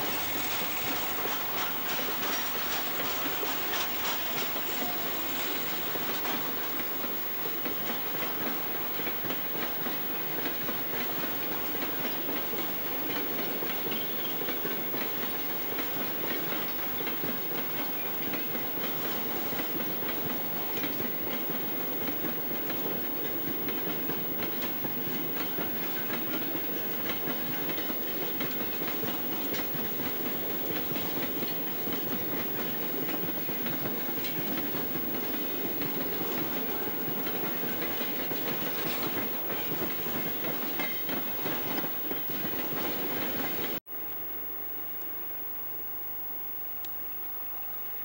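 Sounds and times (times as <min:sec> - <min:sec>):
freight train rolling past: 0:00.0 - 0:43.8
quiet steady noise: 0:00.0 - 0:48.0.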